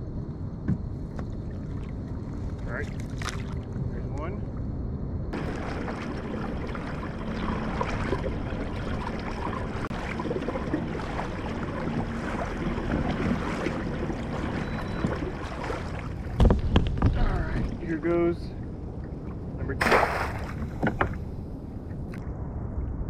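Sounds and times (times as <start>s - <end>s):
wind on microphone: 0.0s - 23.0s
water lapping against kayak: 1.2s - 3.8s, 5.4s - 22.2s.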